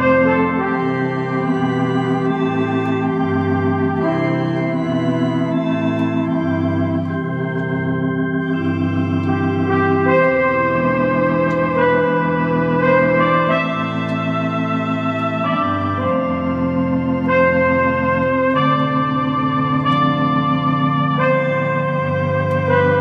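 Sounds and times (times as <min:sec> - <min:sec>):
bass line: 0:00.0 - 0:23.0
electronic organ chords: 0:00.0 - 0:23.0.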